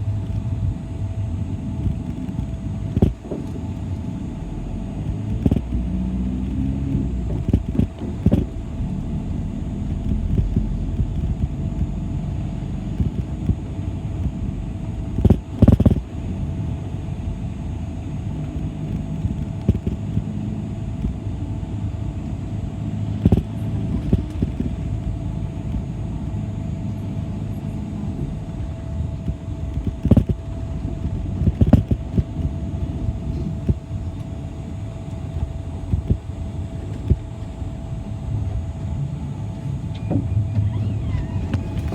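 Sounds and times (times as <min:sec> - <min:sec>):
bus engine and road rumble: 0:00.0 - 0:41.9
steady whine: 0:00.0 - 0:41.9.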